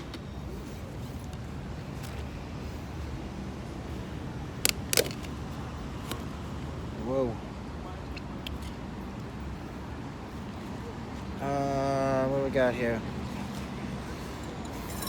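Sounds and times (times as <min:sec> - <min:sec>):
city street background noise: 0:00.0 - 0:15.0.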